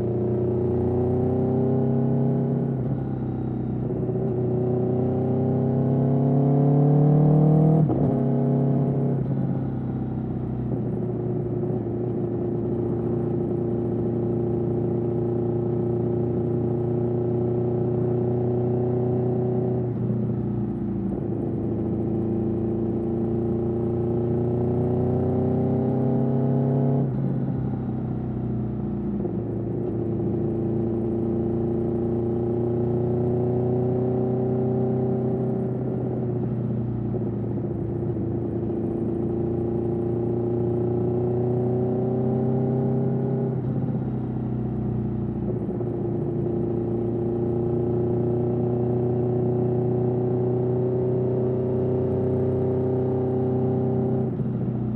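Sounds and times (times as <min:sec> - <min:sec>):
motorcycle engine revving through gears: 0:00.0 - 0:54.9.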